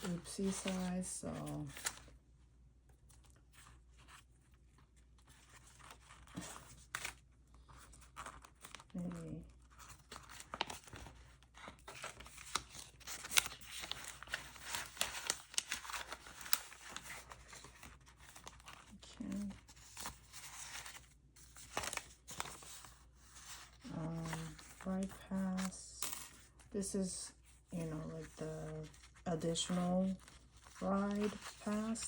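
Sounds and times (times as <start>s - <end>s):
paper crinkling and rustling: 0.0s - 2.2s, 2.9s - 32.0s.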